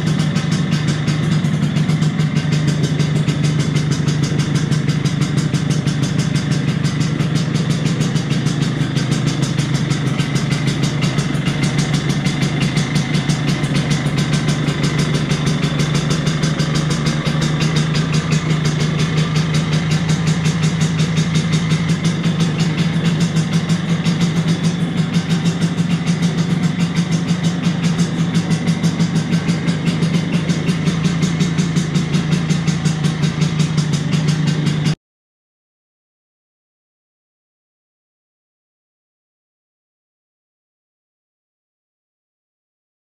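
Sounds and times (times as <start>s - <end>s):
scooter engine idling: 0.0s - 35.0s.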